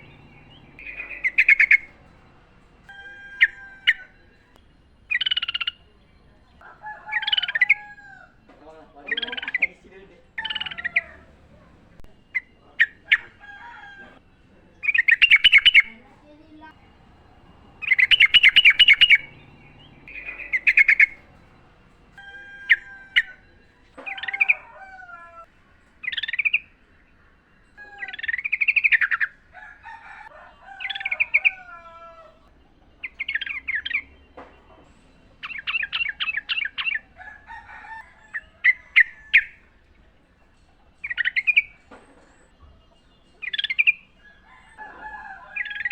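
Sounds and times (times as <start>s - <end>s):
bird chattering song: 0.0s - 7.9s, 8.7s - 25.2s, 26.0s - 29.4s, 30.8s - 32.0s, 32.6s - 37.2s, 40.9s - 44.3s, 45.5s - 45.9s.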